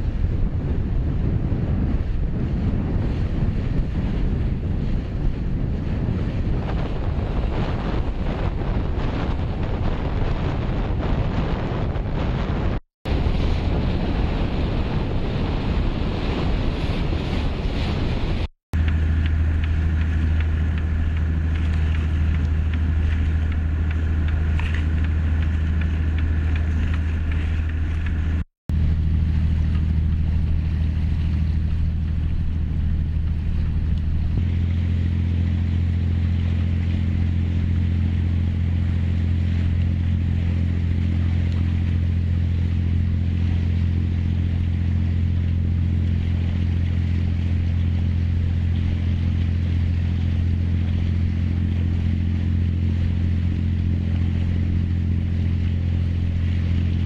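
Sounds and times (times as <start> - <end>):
motorboat engine droning: 0.0 - 57.0.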